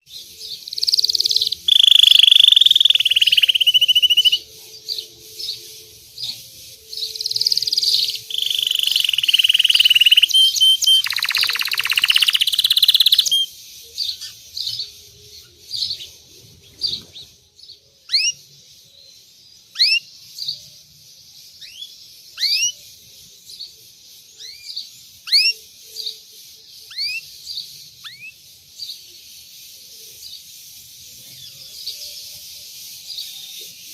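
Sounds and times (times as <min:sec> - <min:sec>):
canary singing trills and chirps: 0:00.0 - 0:33.9.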